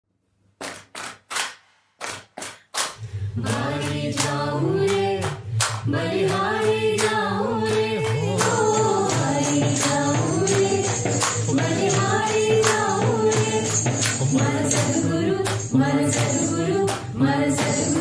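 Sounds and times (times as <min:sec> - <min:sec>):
slow hand claps: 0:00.6 - 0:18.0
group singing a devotional song: 0:03.0 - 0:18.0.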